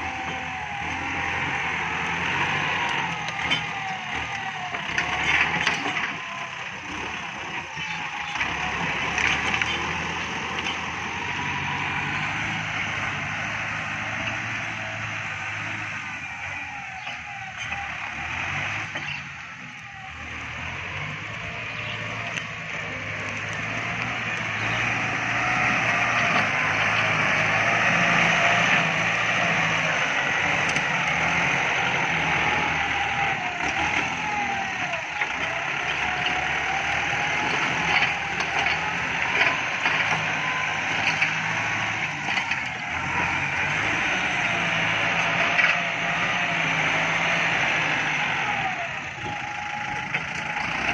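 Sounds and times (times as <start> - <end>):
tractor diesel engine under load: 0.0 - 50.9.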